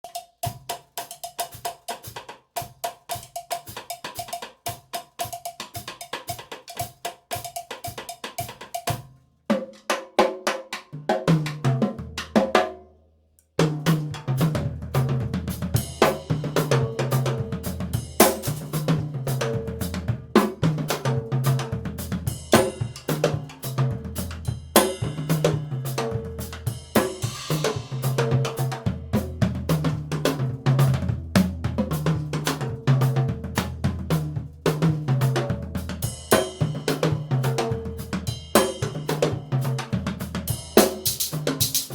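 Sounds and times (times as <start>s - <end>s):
drum groove with kick and snare: 0.0s - 12.8s, 13.6s - 41.9s
drum kit played with sticks: 0.0s - 12.9s, 13.6s - 41.9s.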